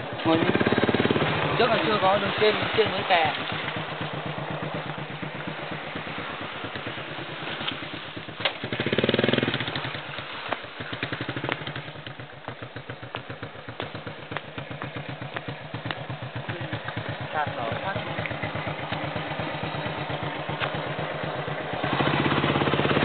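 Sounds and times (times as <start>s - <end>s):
motorcycle engine running: 0.0s - 23.0s
motorcycle knocking over rough trail: 0.0s - 23.0s.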